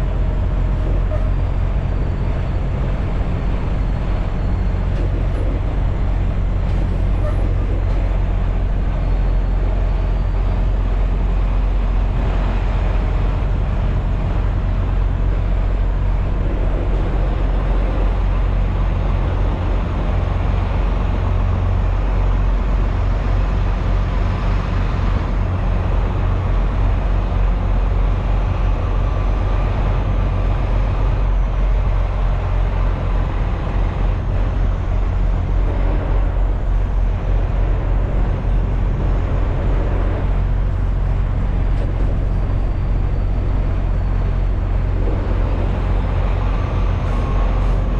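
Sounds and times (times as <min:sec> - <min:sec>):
diesel truck engine drone: 0:00.0 - 0:47.9.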